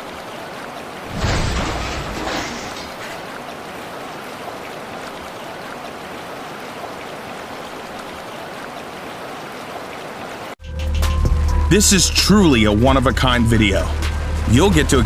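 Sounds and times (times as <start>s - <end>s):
water noise: 0.0s - 10.6s, 11.4s - 15.0s.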